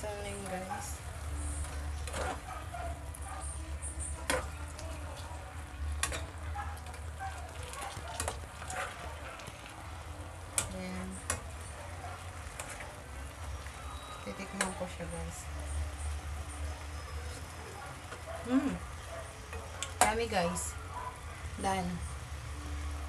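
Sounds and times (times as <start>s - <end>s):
mushrooms sizzling in a pan: 0.0s - 23.0s.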